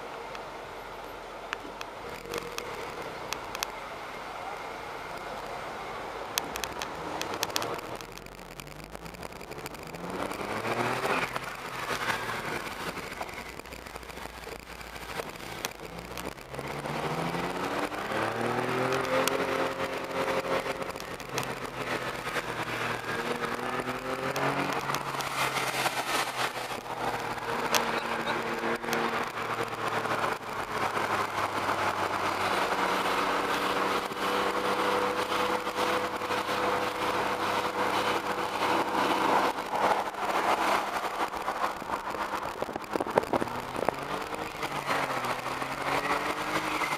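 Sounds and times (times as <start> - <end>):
car engine accelerating: 0.0 - 46.9
road and wind noise: 0.0 - 46.9.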